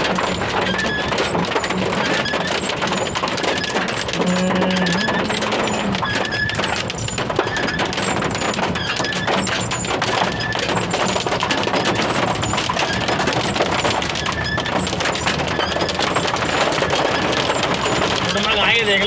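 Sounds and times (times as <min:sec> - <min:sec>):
rain: 0:00.0 - 0:19.0
vehicle road noise: 0:00.0 - 0:19.0.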